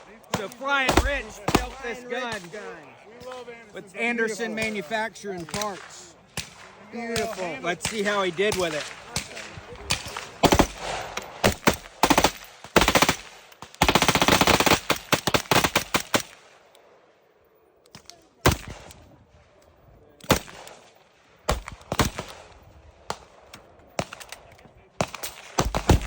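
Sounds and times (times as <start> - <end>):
rifle shots: 0.1 - 3.4, 4.6 - 16.6, 18.4 - 19.0, 20.2 - 26.0.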